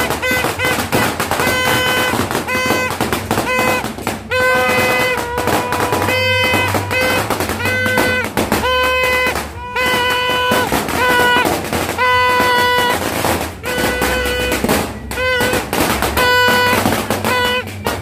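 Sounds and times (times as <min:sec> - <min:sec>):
firecrackers popping: 0:00.0 - 0:18.0
horn blasts: 0:00.0 - 0:18.0.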